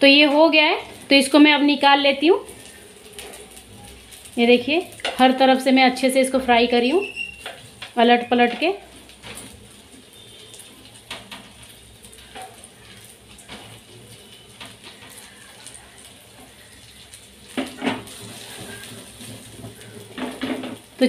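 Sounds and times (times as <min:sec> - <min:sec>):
kebabs sizzling in oil: 0:00.0 - 0:21.0.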